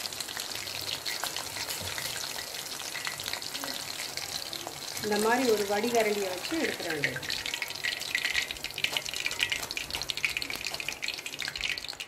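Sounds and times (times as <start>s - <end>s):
hot oil sizzling and popping: 0.0s - 12.0s.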